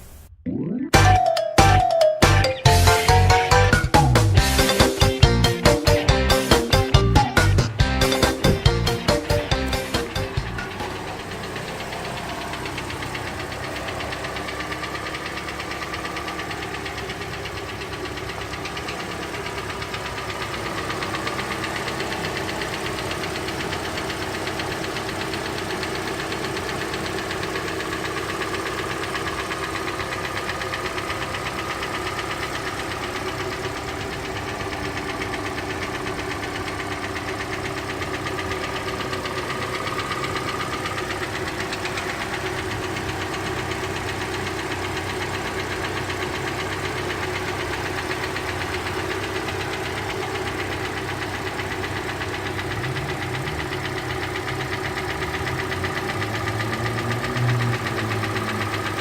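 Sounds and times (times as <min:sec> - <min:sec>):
engine ticking: 0:01.0 - 0:59.0
car engine running: 0:01.8 - 0:59.0.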